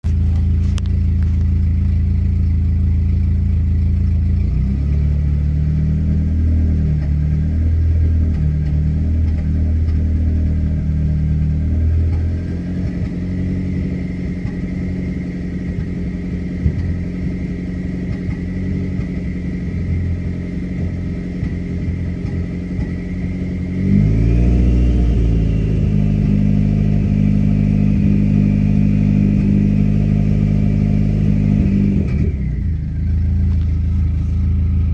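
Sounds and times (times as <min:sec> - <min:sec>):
car engine misfiring: 0:00.0 - 0:34.9.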